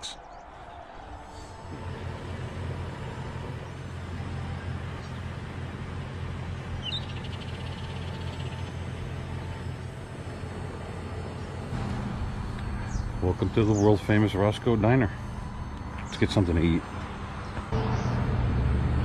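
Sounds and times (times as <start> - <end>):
low rumble of motor vehicles: 0.0 - 19.0.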